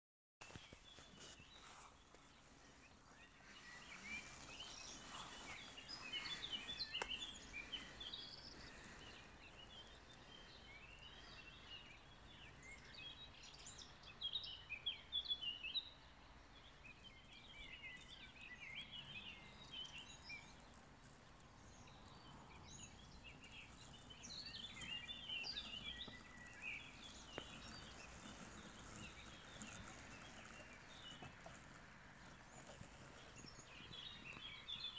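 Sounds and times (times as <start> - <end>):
birds chirping and singing: 0.5 - 31.6.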